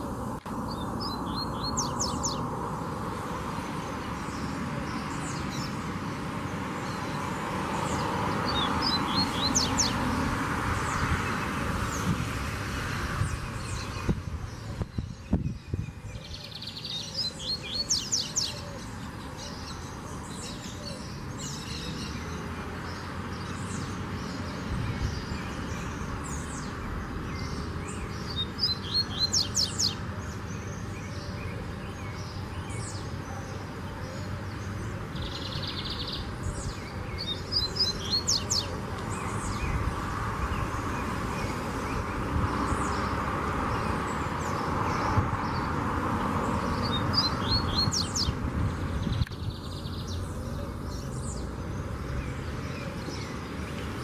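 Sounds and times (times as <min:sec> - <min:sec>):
bird singing buzzy trills: 0:00.0 - 0:54.0.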